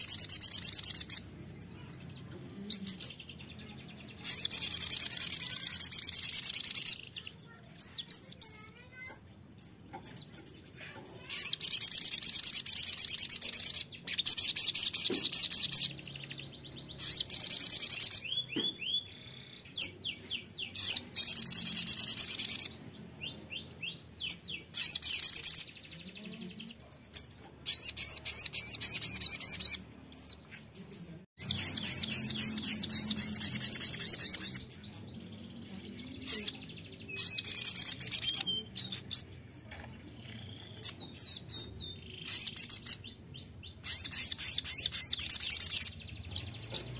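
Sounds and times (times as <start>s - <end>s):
songbird trilling: 0.0s - 30.6s, 31.4s - 46.9s.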